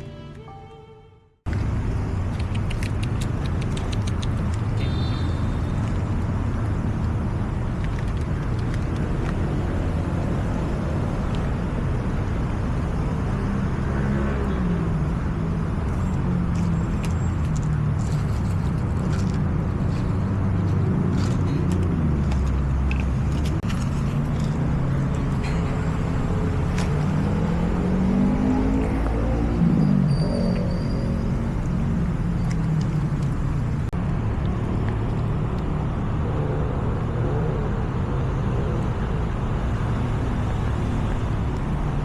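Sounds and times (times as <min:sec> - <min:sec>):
road traffic rumble: 0:01.4 - 0:42.0.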